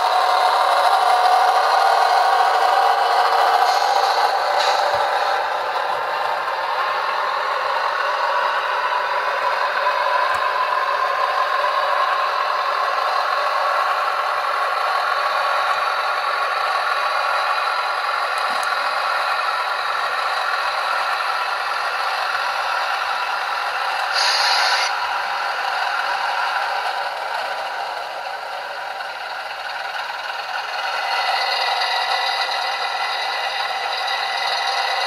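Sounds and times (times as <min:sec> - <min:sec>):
diesel train engine through small speaker: 0:00.0 - 0:35.0.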